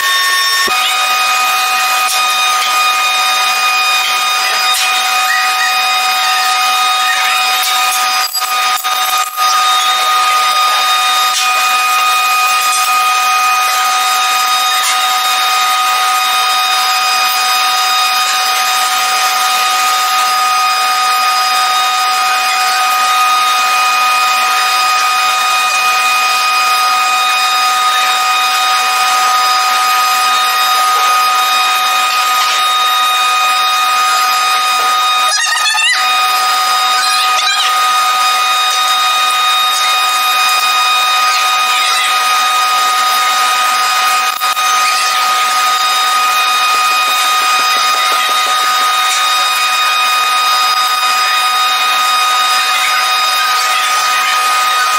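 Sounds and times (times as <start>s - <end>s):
power tool whining: 0.0s - 54.9s.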